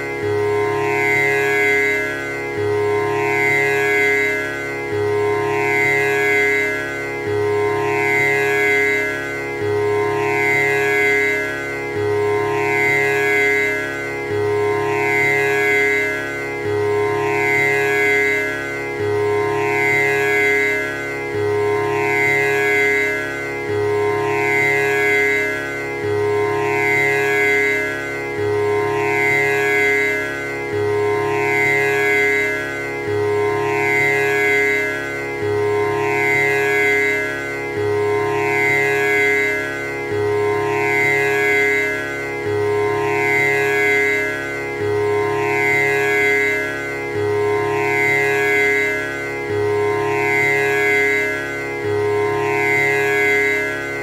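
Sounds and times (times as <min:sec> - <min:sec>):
tanpura drone: 0:00.0 - 0:54.0.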